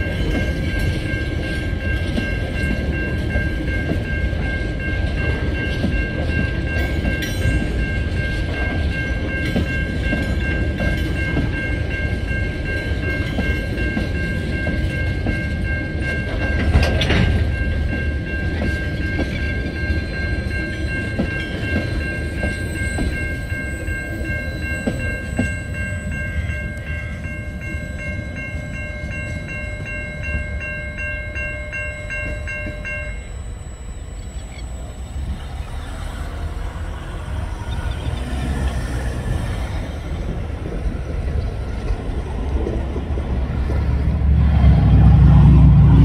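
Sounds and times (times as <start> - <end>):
crossing warning bell ringing: 0.0 - 46.0.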